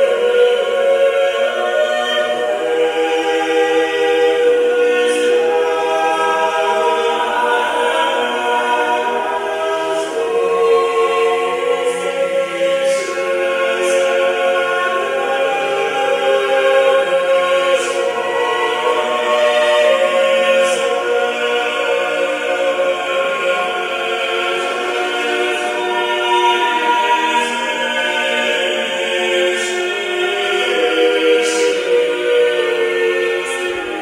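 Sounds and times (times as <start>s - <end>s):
choir singing sustained chords: 0.0s - 34.0s.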